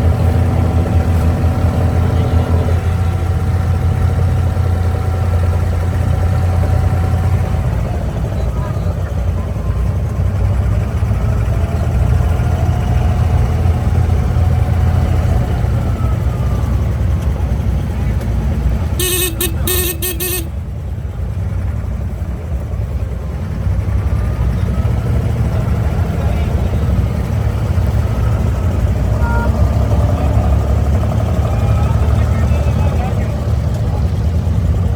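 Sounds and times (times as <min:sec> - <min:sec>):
diesel boat engine droning: 0:00.0 - 0:34.9.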